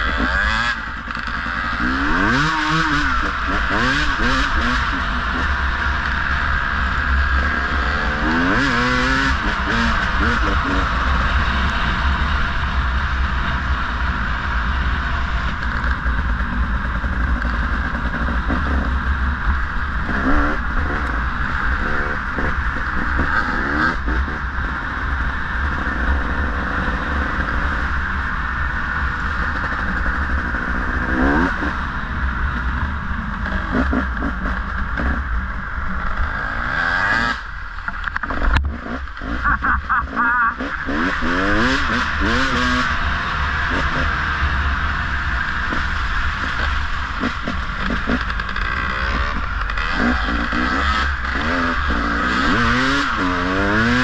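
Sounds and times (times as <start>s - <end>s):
dirt bike engine revving: 0.0s - 54.0s
steady rushing noise: 0.0s - 54.0s.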